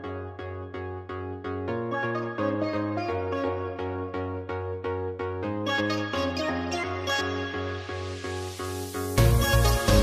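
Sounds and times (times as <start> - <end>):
background music with low bass: 0.0 - 10.0.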